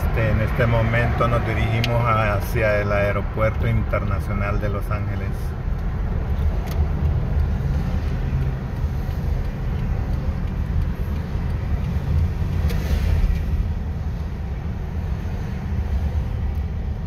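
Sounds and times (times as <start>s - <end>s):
car interior engine and tyre rumble: 0.0s - 17.0s.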